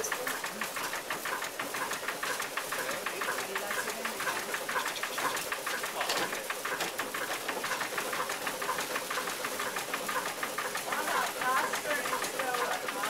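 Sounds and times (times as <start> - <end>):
wooden mill machinery clattering: 0.0 - 13.0.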